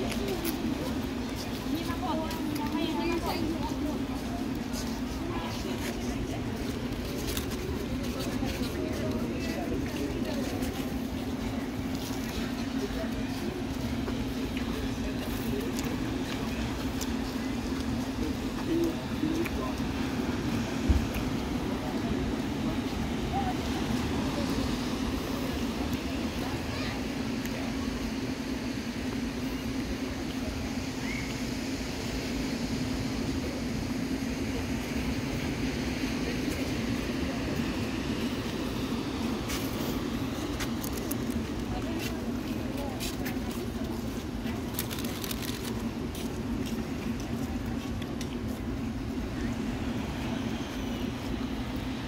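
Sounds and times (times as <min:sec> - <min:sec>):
low outdoor hum and rumble: 0:00.0 - 0:52.0.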